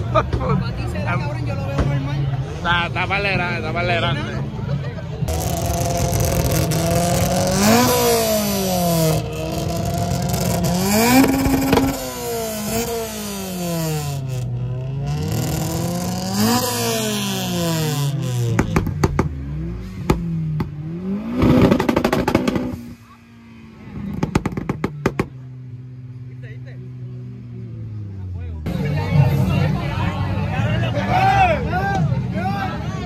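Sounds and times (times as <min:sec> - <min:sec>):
car engine revving: 0:05.2 - 0:33.0.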